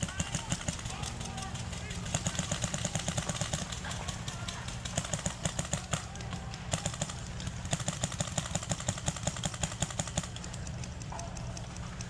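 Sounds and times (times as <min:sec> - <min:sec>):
paintball guns firing: 0:00.0 - 0:12.0.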